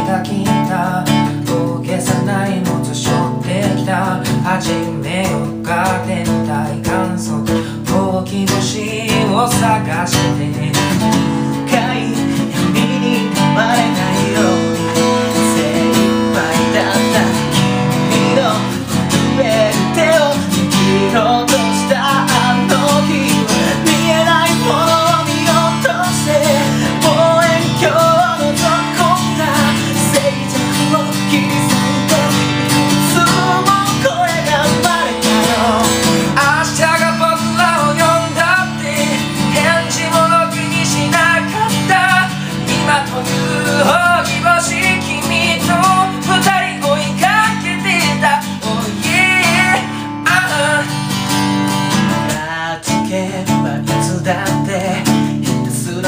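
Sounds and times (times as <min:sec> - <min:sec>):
acoustic guitar strumming: 0:00.0 - 0:56.0
man singing: 0:00.0 - 0:56.0.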